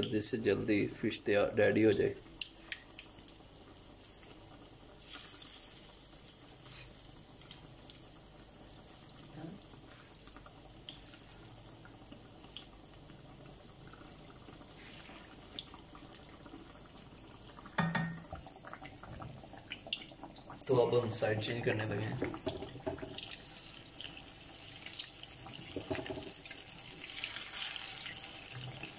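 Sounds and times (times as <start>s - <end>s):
fish deep-frying in oil: 0.0s - 28.9s
oil popping and crackling: 4.5s - 28.9s.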